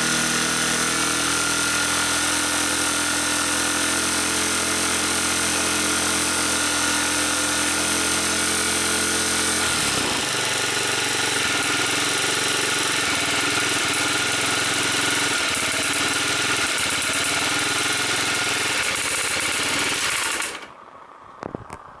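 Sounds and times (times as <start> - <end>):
scooter engine with tappet noise: 0.0 - 20.8.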